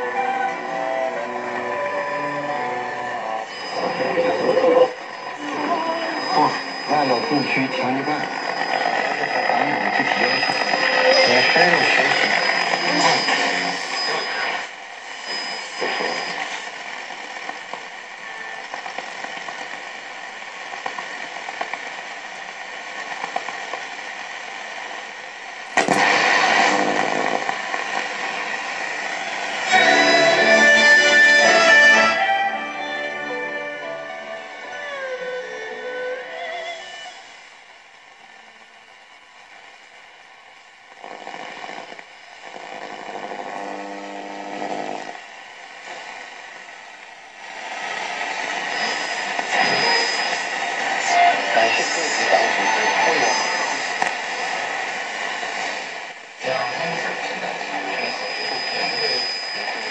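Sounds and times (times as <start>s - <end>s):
radio station signal: 0.0s - 20.2s, 24.6s - 40.2s, 41.0s - 59.9s
radio static hiss with crackles: 0.0s - 59.9s.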